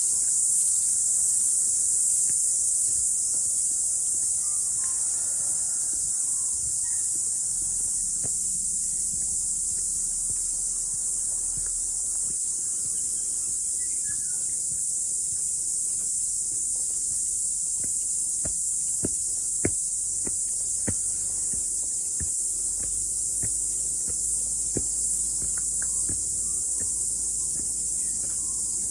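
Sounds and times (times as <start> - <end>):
cicadas droning: 0.0 - 28.9.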